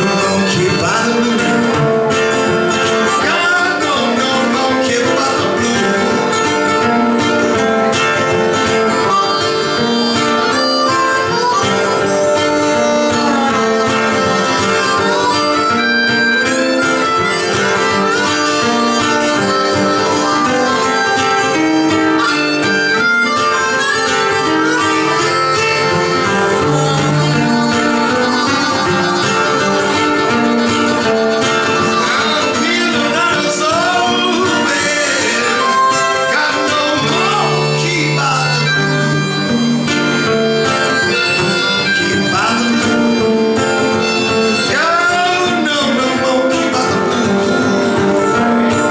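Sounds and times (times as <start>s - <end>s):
acoustic guitar accompaniment: 0.0s - 48.9s
harmonica bending notes: 0.0s - 48.9s.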